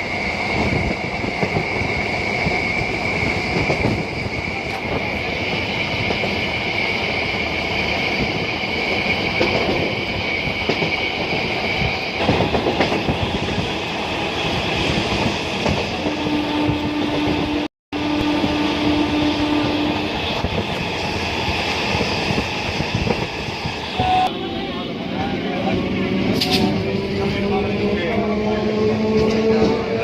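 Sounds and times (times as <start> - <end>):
electric train rumbling on track: 0.0 - 30.0.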